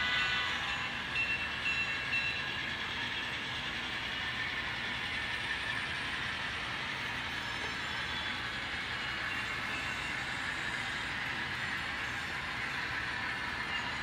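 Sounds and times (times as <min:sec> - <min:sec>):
model train whirring: 0:00.0 - 0:14.0.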